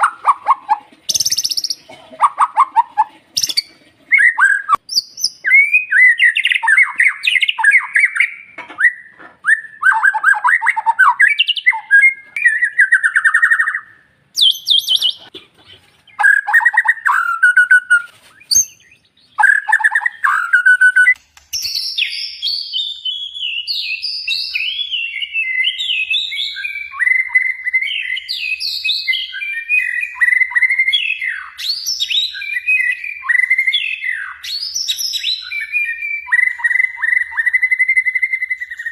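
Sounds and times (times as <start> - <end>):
bird singing whistled phrases: 0.0 - 1.8, 2.6 - 15.2, 16.2 - 38.9.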